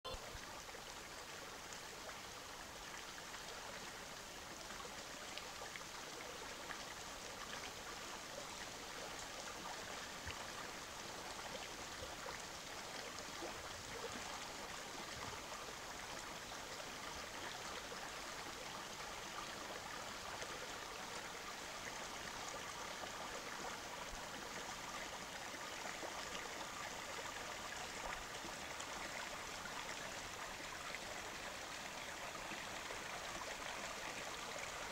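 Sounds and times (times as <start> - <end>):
stream flowing over stones: 0.1 - 34.9.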